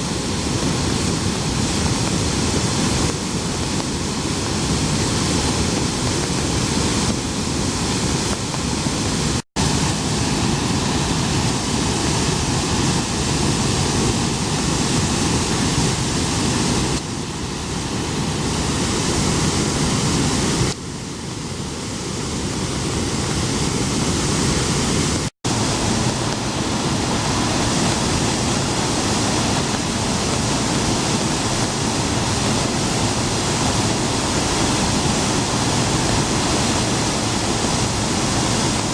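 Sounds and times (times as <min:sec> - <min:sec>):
water roaring from dam: 0:00.0 - 0:38.9.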